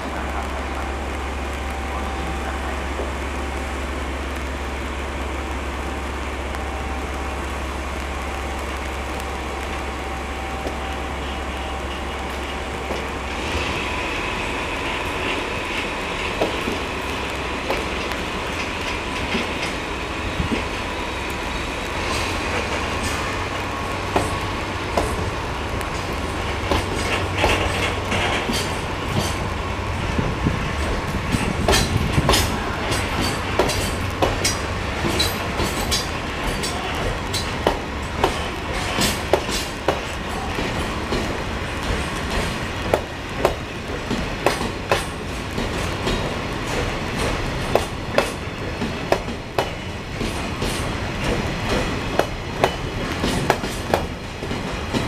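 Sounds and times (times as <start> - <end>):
diesel locomotive engine droning: 0.0 - 55.0
train wheels clacking over rail joints: 10.6 - 55.0.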